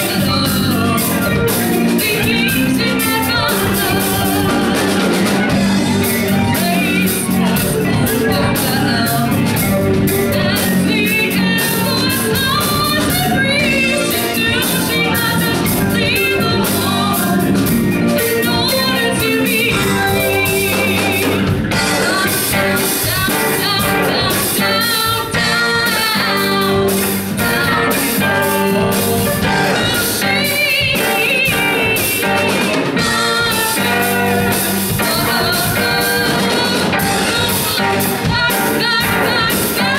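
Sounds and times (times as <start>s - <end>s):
bass guitar: 0.0s - 39.9s
drum kit: 0.0s - 39.9s
electric guitar: 0.0s - 39.9s
electric keyboard: 0.0s - 39.9s
woman singing: 0.0s - 39.9s.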